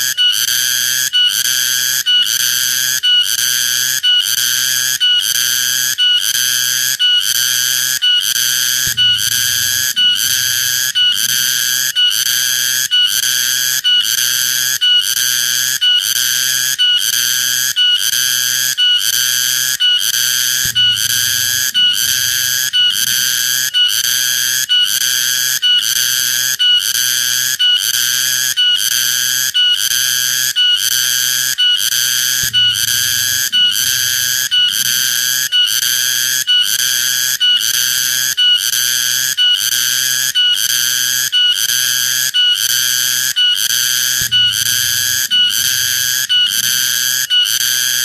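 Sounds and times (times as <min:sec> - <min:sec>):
cicada buzzing drone: 0:00.0 - 0:48.0.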